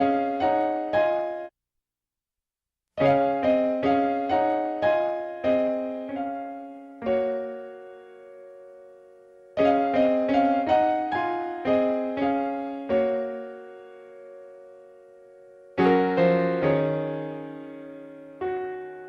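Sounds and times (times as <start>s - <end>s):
piano chords: 0.0s - 1.5s, 3.0s - 19.0s.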